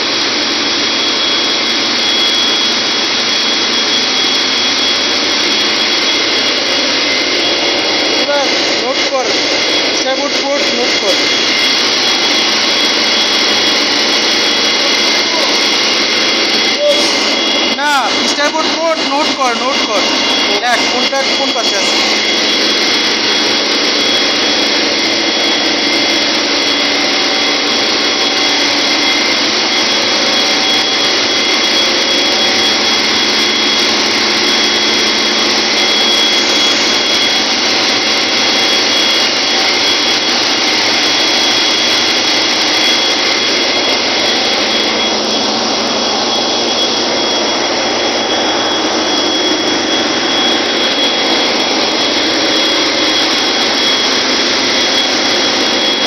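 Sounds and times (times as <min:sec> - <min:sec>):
engine room machinery din: 0:00.0 - 0:56.0
high-pitched machinery whines: 0:00.0 - 0:56.0.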